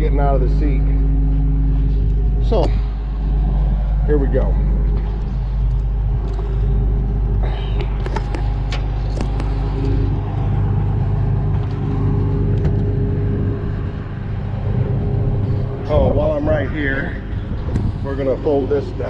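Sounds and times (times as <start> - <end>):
combine diesel engine running: 0.0 - 19.0.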